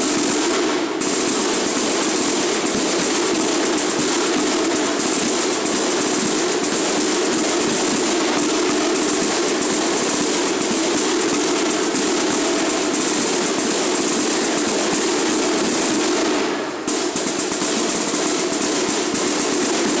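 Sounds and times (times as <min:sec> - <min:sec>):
marching side drums: 0:00.0 - 0:20.0.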